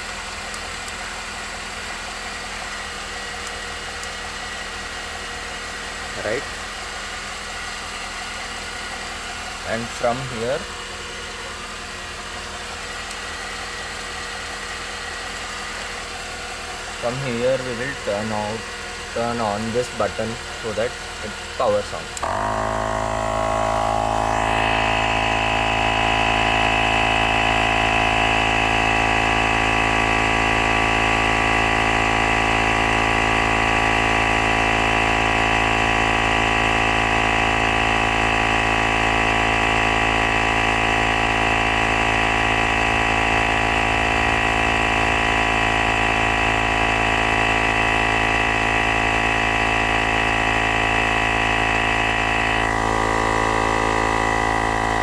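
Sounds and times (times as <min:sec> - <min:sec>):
electric air compressor pumping: 0:05.8 - 0:55.0.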